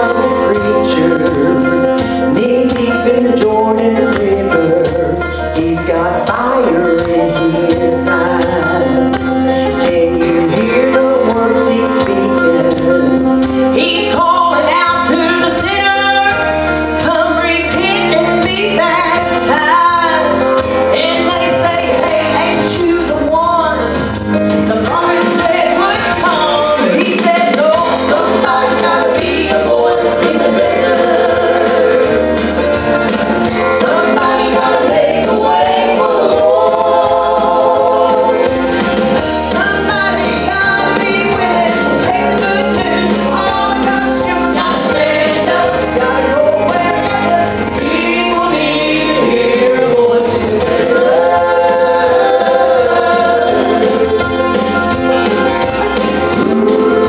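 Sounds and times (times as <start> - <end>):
woman singing into microphone: 0.0 - 32.4, 39.5 - 54.5
instrumental accompaniment: 0.0 - 57.0.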